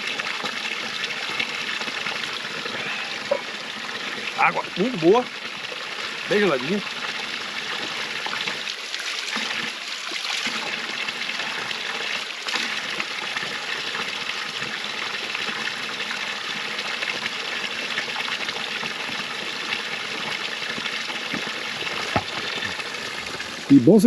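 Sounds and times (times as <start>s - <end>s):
water splashing: 0.0s - 15.0s, 18.0s - 23.7s
water running from spout: 0.0s - 24.0s.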